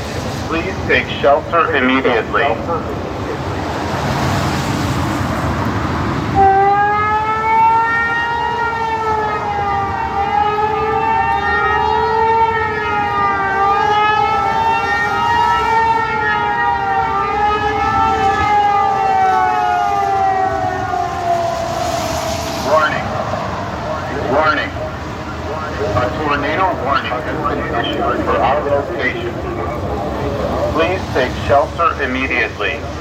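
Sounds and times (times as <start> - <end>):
rushing background noise: 0.0 - 33.0
warning siren wavering: 0.5 - 33.0.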